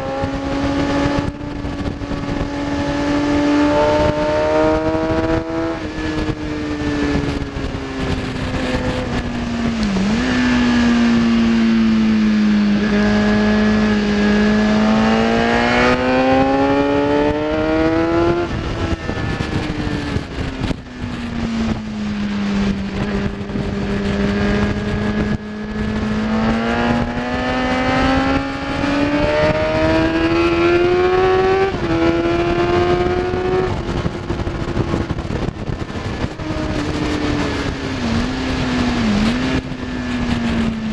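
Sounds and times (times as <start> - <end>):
motorcycle engine accelerating: 0.0 - 40.9
wind noise: 0.0 - 40.9.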